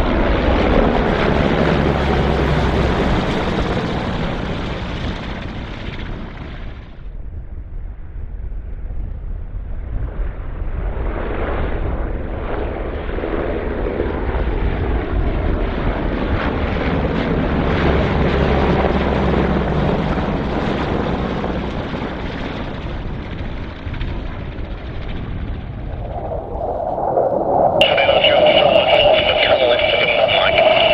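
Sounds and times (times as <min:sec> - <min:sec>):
helicopter flying past: 0:00.0 - 0:30.9.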